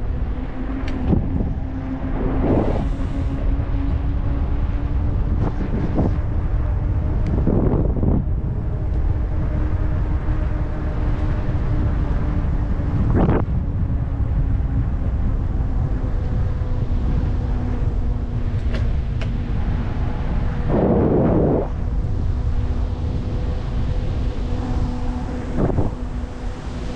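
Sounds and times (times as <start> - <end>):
steady low hum: 0.0 - 26.9
wind rumbling on microphone: 0.0 - 26.9.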